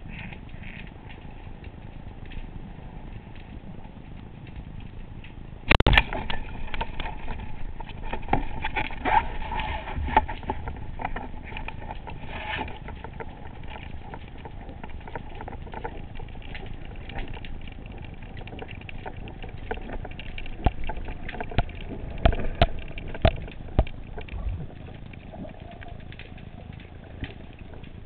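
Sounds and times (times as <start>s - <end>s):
muffled underwater rumble: 0.0s - 28.0s
sharp clicks and knocks: 4.4s - 9.2s, 10.0s - 28.0s.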